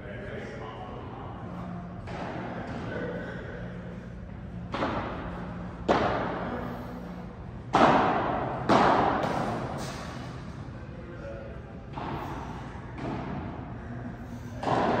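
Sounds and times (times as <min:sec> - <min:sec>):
low steady hum: 0:00.0 - 0:15.0
loud echoing impacts: 0:01.5 - 0:10.8, 0:11.7 - 0:15.0.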